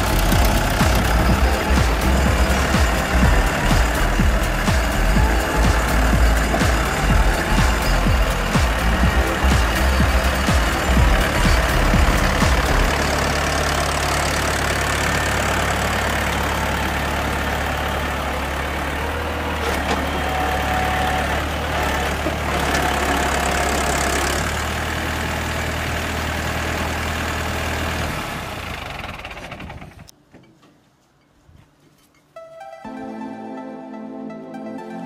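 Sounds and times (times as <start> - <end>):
tractor engine running: 0.0 - 30.2.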